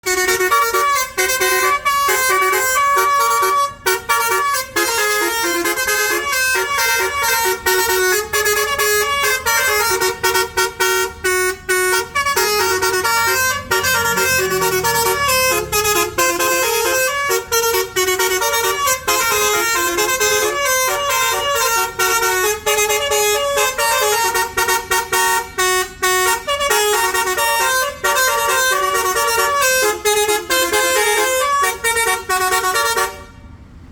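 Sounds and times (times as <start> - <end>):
multi-tone bus horn melody: 0.0 - 33.9.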